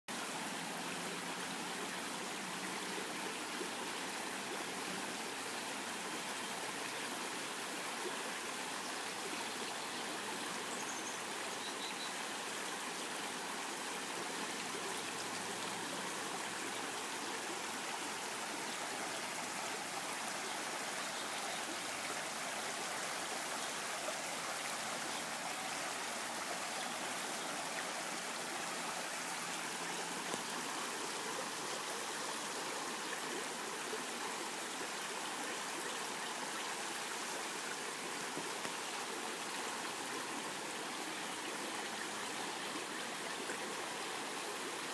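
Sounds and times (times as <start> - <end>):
creek water running over stones: 0.1 - 44.9.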